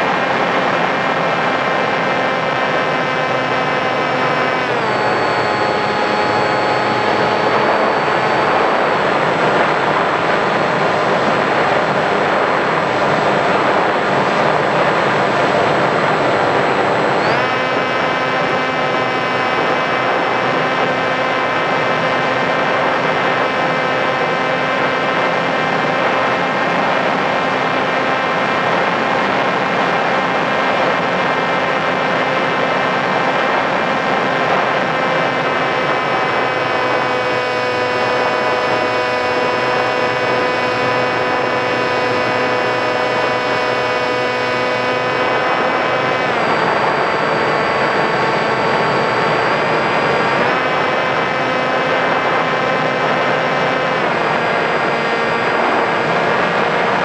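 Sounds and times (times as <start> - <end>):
electric motor and propeller whining: 0.0 - 57.0
rushing wind noise: 0.0 - 57.0.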